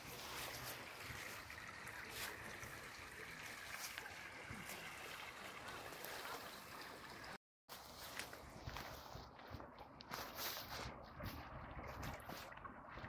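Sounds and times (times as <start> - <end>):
small river flowing: 0.0 - 13.0.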